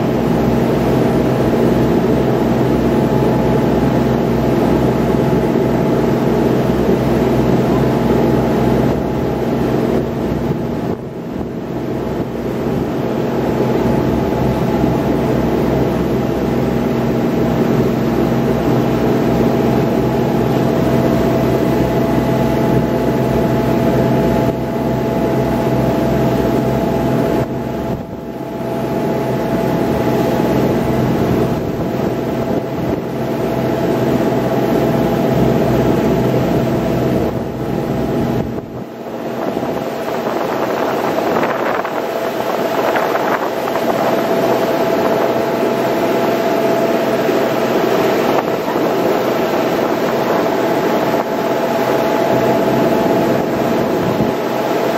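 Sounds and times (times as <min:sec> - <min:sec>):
boat engine drone: 0:00.0 - 0:54.9
water rushing: 0:00.0 - 0:54.9
wind rumble on microphone: 0:00.0 - 0:54.9.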